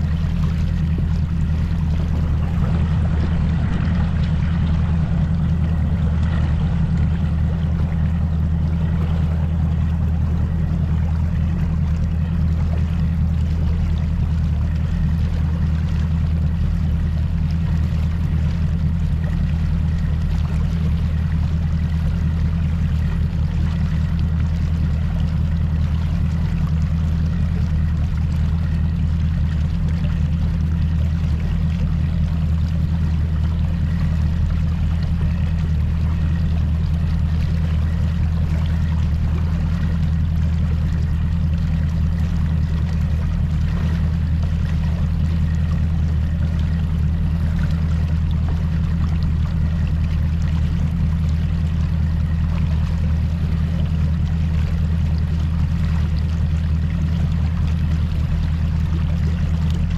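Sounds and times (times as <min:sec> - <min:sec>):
outboard motor drone: 0:00.0 - 0:59.9
water rushing along hull: 0:00.0 - 0:59.9.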